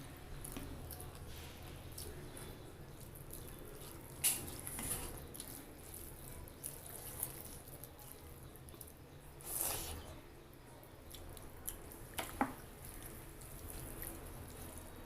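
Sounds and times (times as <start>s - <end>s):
person chewing food: 0.3s - 10.1s, 11.1s - 15.0s.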